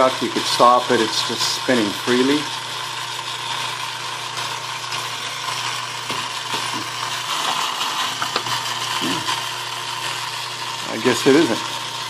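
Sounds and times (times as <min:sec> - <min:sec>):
lathe humming and whirring: 0:00.0 - 0:12.0.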